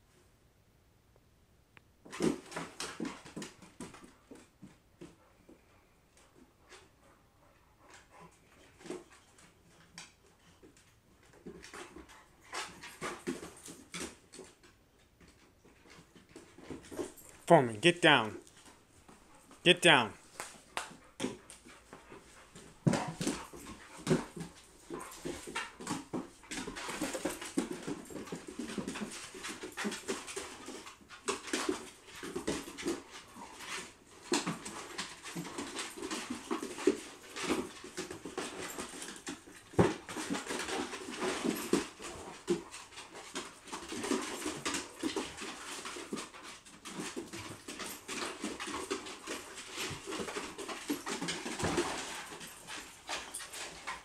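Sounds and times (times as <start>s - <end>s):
dogs playing: 2.0s - 17.5s, 18.3s - 54.0s.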